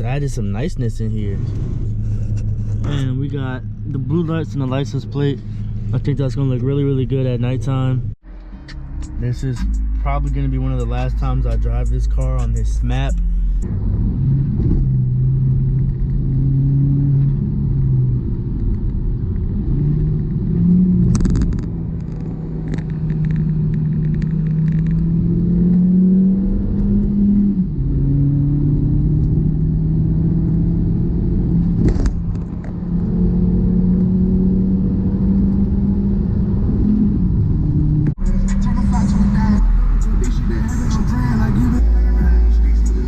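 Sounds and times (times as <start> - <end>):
car engine droning while driving: 0.0 - 43.0.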